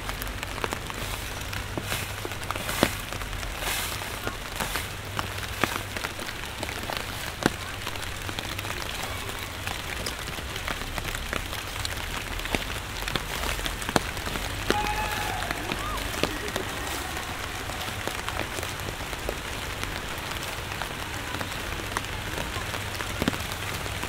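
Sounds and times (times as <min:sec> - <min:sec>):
rain on street: 0:00.0 - 0:24.0.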